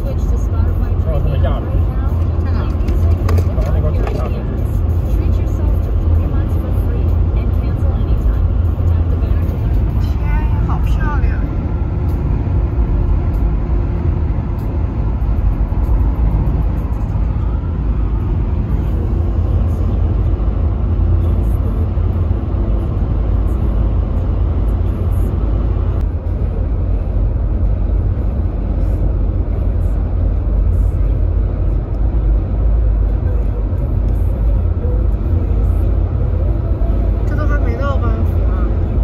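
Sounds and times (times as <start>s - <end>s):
car engine hum: 0.0s - 39.0s
road and tyre rumble: 0.0s - 39.0s.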